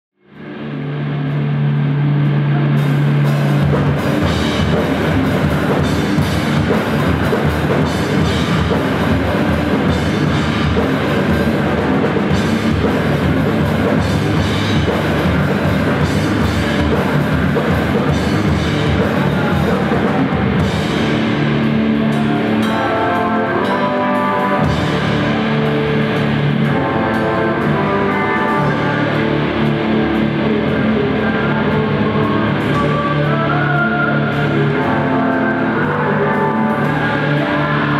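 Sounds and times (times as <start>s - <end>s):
guitar riff: 0.3s - 37.9s
heavy rock band playing: 0.4s - 37.9s.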